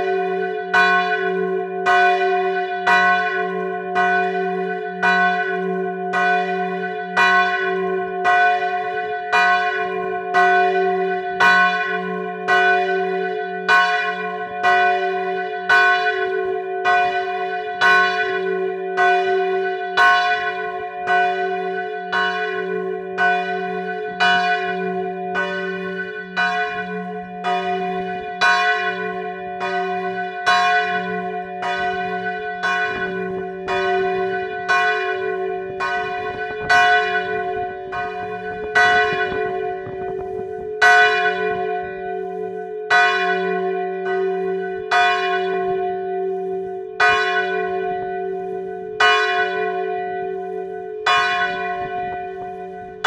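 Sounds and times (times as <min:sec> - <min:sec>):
church bell tolling: 0:00.0 - 0:53.0.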